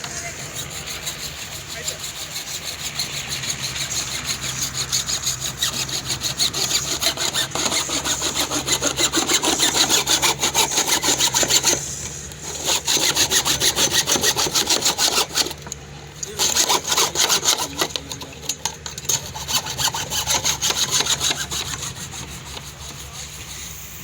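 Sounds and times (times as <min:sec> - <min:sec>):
hand saw cutting plastic pipe: 0:00.0 - 0:23.9.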